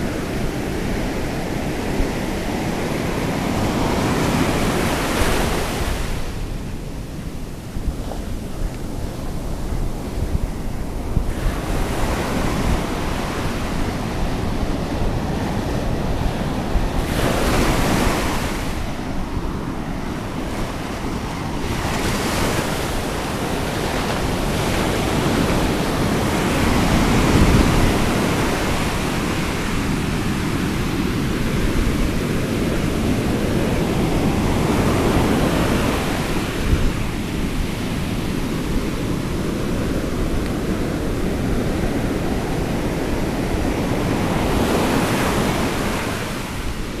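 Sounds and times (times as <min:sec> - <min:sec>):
ocean surf washing over sand: 0:00.0 - 0:47.0
wind rumble on microphone: 0:00.0 - 0:47.0.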